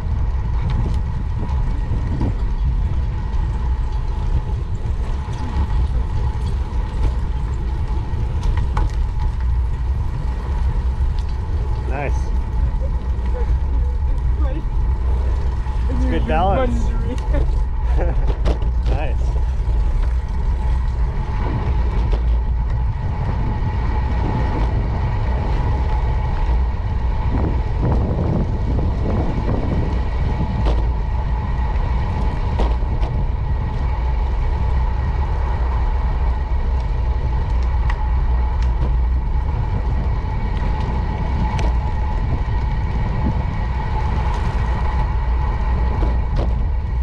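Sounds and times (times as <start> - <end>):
bicycle clicks and rattles: 0.0 - 47.0
bicycle tyre rumble: 0.0 - 47.0
high hum: 0.0 - 47.0
wind buffeting microphone: 0.0 - 47.0.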